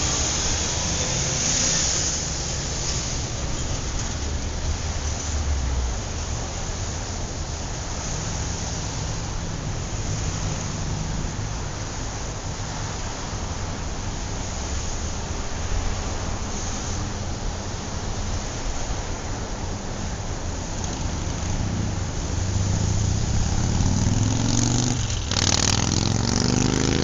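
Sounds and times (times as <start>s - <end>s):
passing car engines: 0.0s - 27.0s
tyre and road noise: 0.0s - 27.0s.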